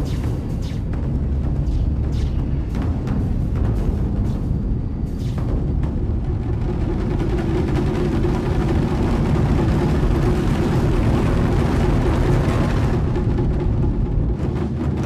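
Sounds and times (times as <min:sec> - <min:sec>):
deep eruption rumble: 0:00.0 - 0:15.0
low held hum: 0:00.0 - 0:15.0.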